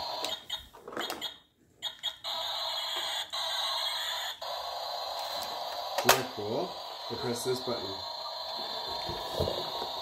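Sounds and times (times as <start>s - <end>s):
toy electronic sound effects: 0.0s - 10.0s.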